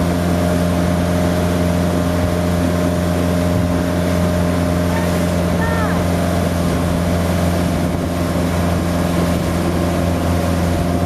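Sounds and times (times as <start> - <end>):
motorboat engine humming: 0.0 - 11.0
rush of boat wake: 0.0 - 11.0.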